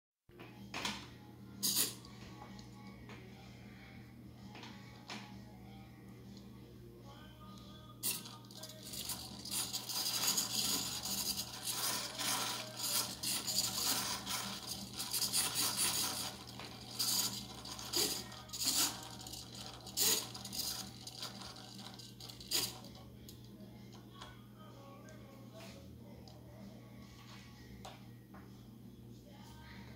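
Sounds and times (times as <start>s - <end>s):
steady low hum: 0.6s - 29.9s.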